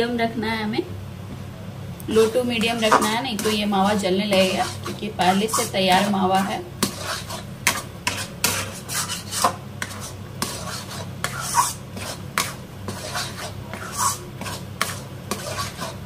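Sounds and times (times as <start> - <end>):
metal spatula scraping a pan: 2.7 - 16.0.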